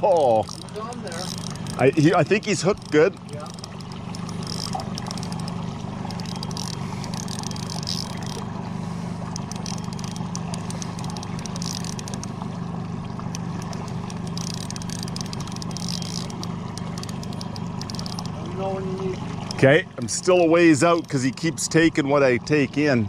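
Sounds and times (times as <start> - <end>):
fine clicking: 0.0 - 22.3
outboard motor humming: 0.0 - 23.0.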